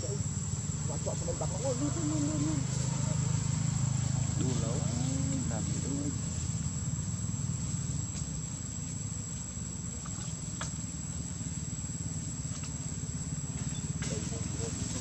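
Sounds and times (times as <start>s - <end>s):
high-pitched insect drone: 0.0s - 15.0s
low steady rumble: 0.0s - 15.0s.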